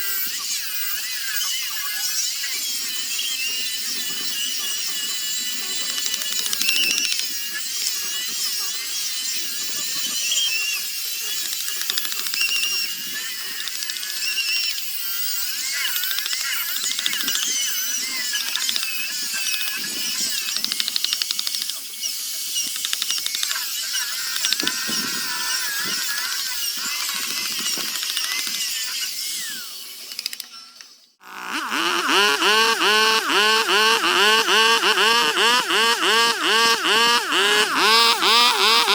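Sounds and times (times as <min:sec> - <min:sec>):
power tool whining on wood: 0:00.0 - 0:38.9.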